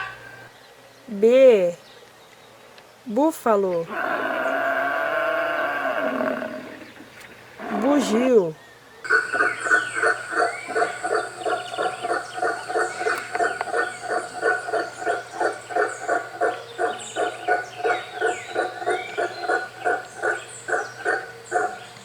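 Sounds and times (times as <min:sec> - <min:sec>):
howler monkey calling: 0:03.8 - 0:22.0.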